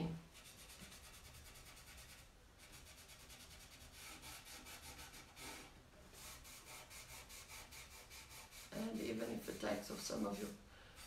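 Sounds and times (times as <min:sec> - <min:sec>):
cloth rubbing on a box: 0:00.3 - 0:10.6.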